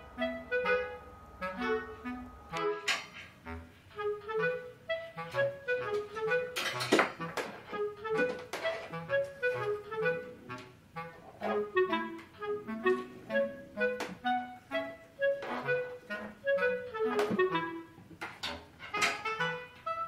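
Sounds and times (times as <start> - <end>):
woodwind melody with light rhythm: 0.0 - 20.0.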